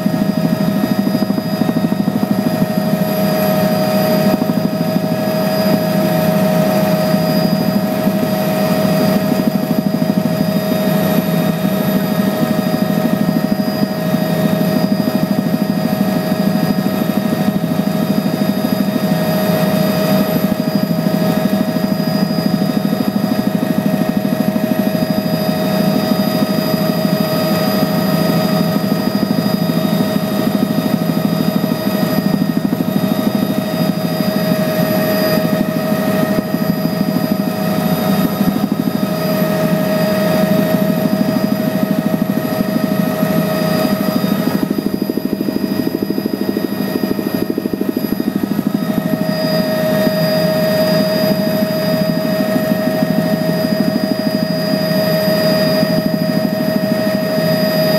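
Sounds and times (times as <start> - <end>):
aircraft engine drone in cabin: 0.0 - 57.9
constant whine: 0.0 - 57.9.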